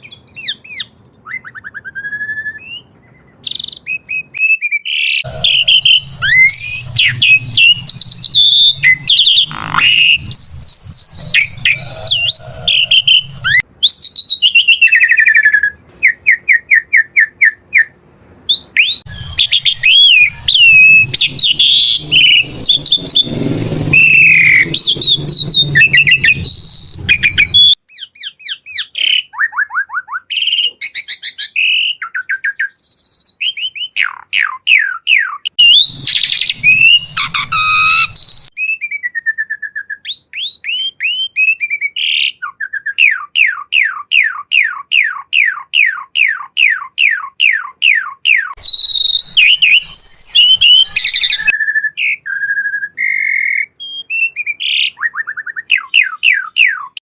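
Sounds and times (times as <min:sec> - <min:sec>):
starling singing: 0:03.6 - 0:17.9, 0:18.5 - 0:29.7, 0:33.3 - 0:38.5, 0:40.1 - 0:57.0.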